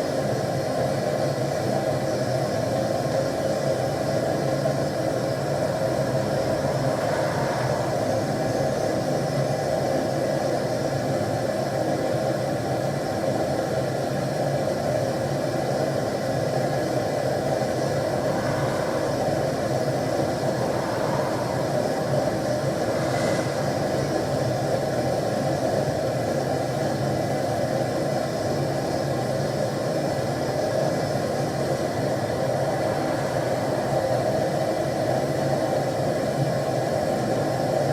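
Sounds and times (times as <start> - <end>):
gas burner flame roaring: 0.0 - 37.9.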